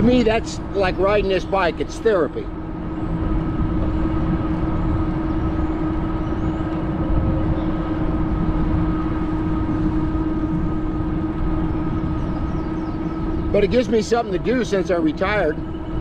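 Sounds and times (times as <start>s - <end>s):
electric bike drive whine: 0.0s - 16.0s
wind and rolling rumble: 0.0s - 16.0s.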